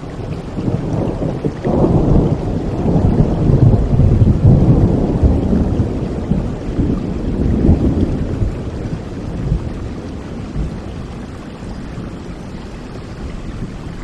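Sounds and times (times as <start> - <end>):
steady rain: 0.0 - 14.0
thunder rumbling: 0.1 - 14.0.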